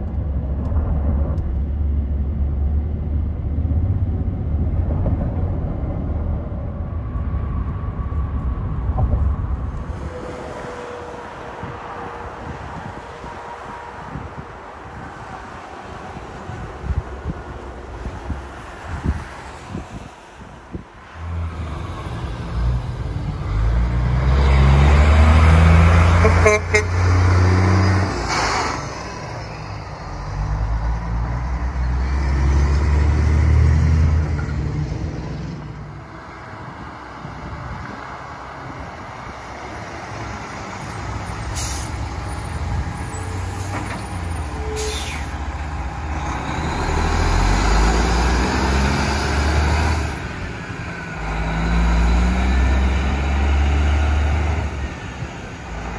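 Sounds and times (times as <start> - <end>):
diesel trucks driving past: 0.0 - 55.9.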